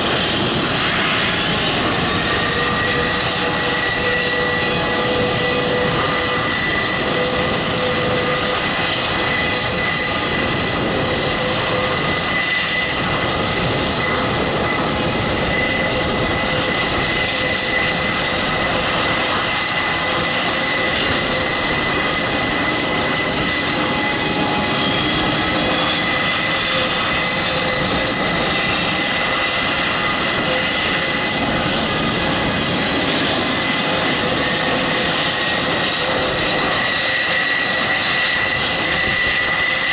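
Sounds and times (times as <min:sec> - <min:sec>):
turbine whine: 0:00.0 - 0:39.9
turboprop engines running: 0:00.0 - 0:39.9.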